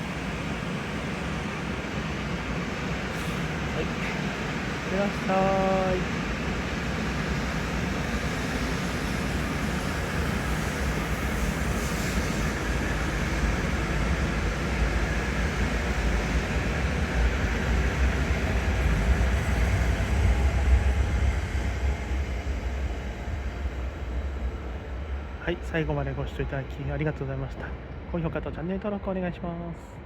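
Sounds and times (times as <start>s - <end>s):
train wheels rumbling on rails: 0.0s - 29.8s.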